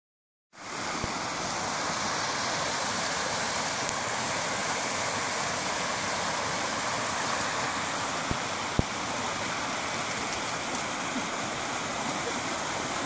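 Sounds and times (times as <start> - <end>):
creek rushing over rocks: 0.6 - 13.0.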